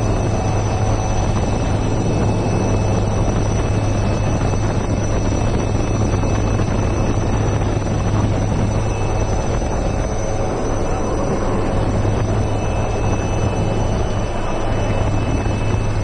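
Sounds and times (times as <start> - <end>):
helicopter rotor and engine drone: 0.0 - 16.0
thin high whine: 0.0 - 16.0.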